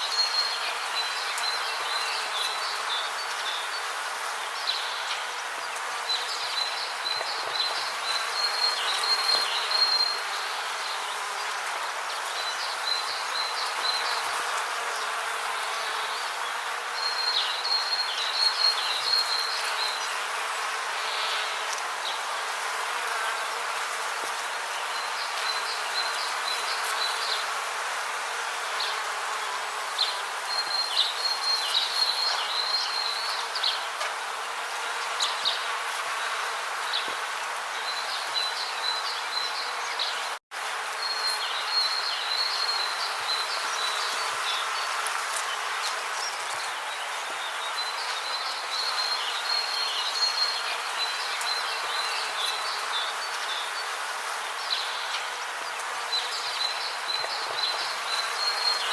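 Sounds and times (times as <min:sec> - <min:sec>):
insect chorus hiss: 0:00.0 - 0:58.9.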